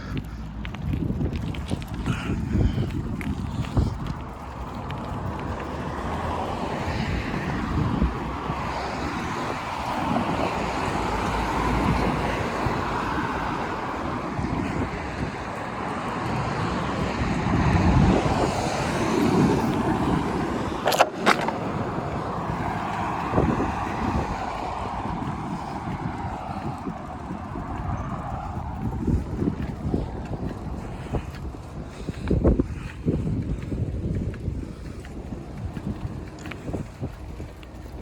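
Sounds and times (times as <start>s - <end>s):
road traffic passing: 0.0s - 38.0s
wind rumble on microphone: 0.0s - 38.0s.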